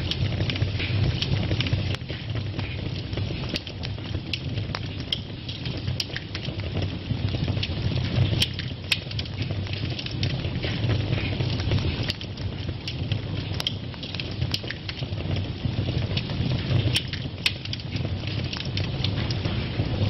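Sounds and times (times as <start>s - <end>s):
fire crackling and popping: 0.0s - 20.0s
fire rumbling in a fireplace: 0.0s - 20.0s.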